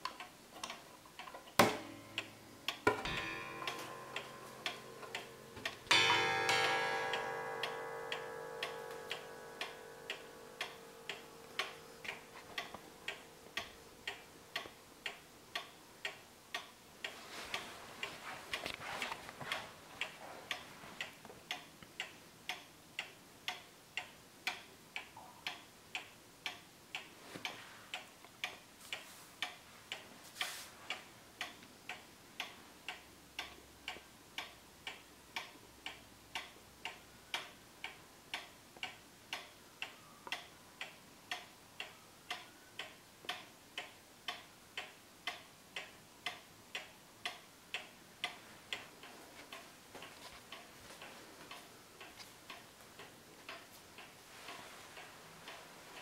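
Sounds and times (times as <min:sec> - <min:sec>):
clock pendulum ticking: 0:00.0 - 0:56.0.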